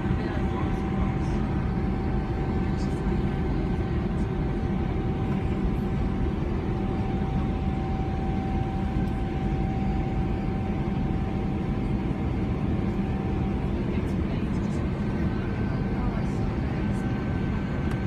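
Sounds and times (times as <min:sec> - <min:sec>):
jet engines droning: 0:00.0 - 0:18.0
steady whine: 0:00.0 - 0:18.0.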